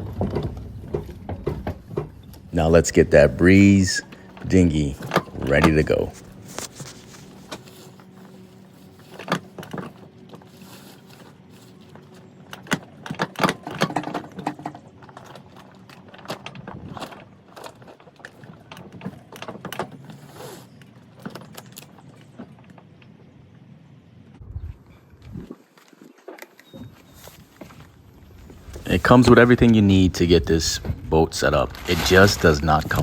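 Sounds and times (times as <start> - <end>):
inflatable dinghy parts clattering: 0.0 - 23.7, 25.5 - 33.0
low steady hum: 0.0 - 33.0.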